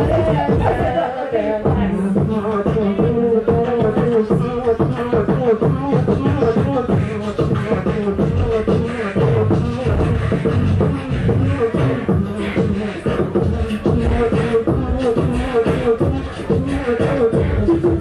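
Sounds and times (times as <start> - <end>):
beatboxing into microphone: 0.0 - 18.0
pitched vocal line: 0.0 - 18.0.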